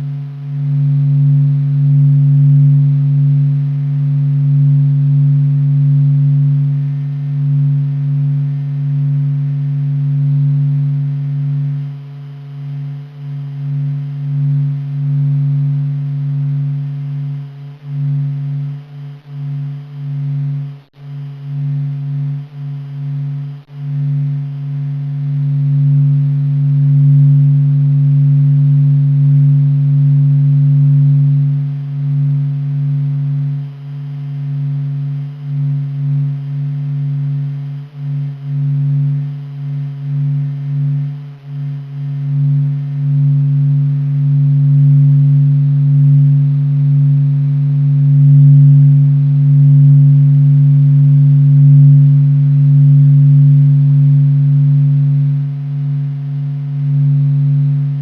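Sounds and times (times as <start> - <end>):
low hum with overtones: 0.0 - 58.0.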